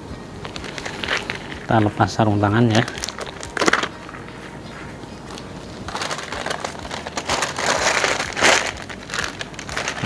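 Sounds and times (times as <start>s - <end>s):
wrappers and gauze crinkling: 0.4s - 10.0s.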